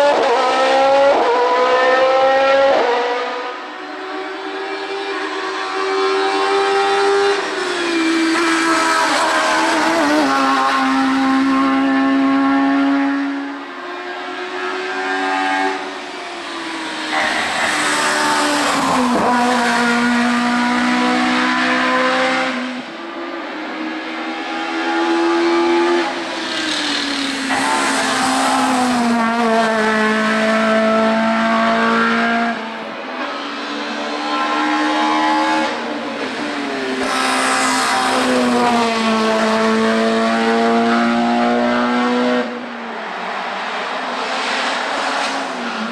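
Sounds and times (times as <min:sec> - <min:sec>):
race car engines revving: 0:00.0 - 0:45.9.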